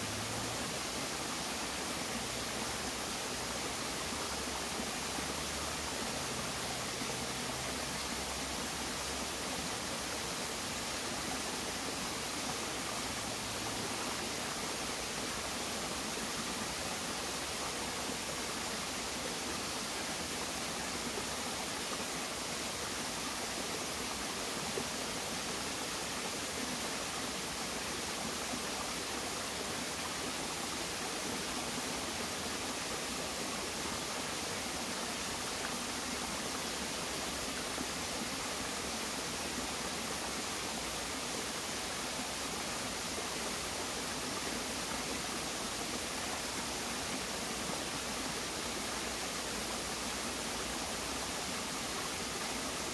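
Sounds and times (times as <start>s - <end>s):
stream flowing over rocks: 0.0s - 52.9s.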